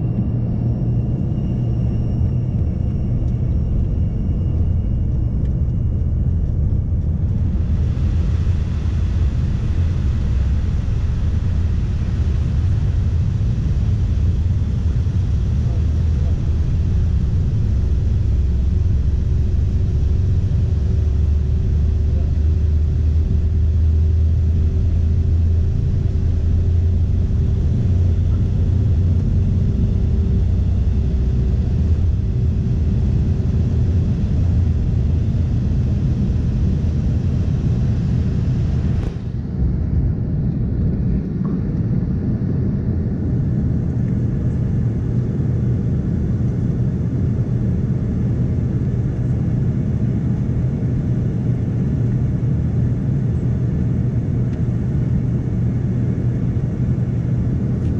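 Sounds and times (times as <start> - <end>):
jet engine cabin rumble: 0.0 - 57.9.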